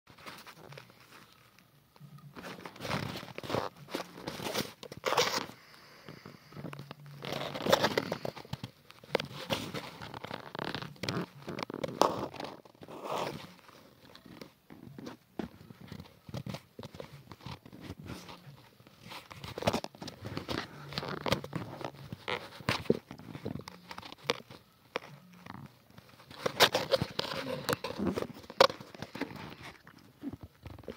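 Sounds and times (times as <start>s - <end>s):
microphone handling rustling: 2.3s - 30.9s.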